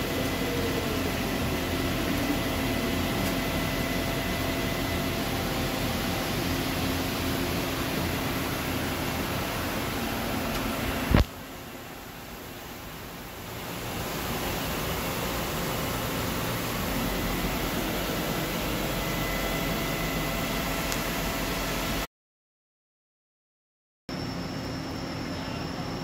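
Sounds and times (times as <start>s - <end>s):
lathe machine hum and whine: 0.0s - 22.1s, 24.1s - 26.0s.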